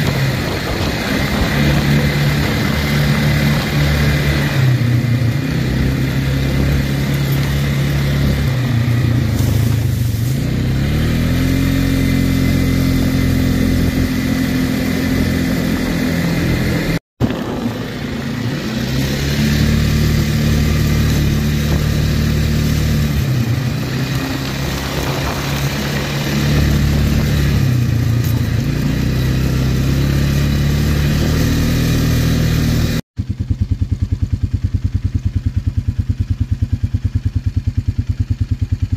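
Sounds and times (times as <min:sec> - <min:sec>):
quad bike engine: 0:00.0 - 0:38.9
tyres on gravel road: 0:00.0 - 0:38.9.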